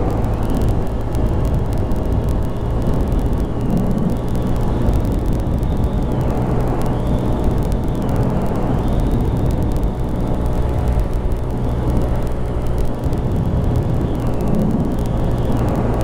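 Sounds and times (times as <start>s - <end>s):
constant rushing noise: 0.0s - 16.0s
motorcycle engine running: 0.0s - 16.0s.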